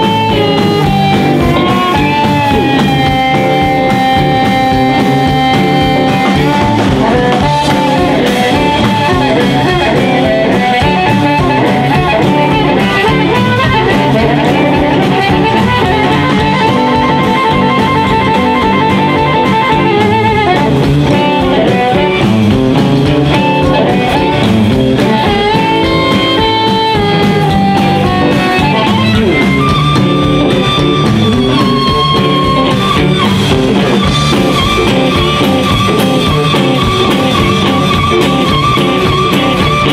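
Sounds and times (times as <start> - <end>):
amplified harmonica: 0.0 - 39.9
drum kit: 0.0 - 39.9
electric guitar: 0.0 - 39.9.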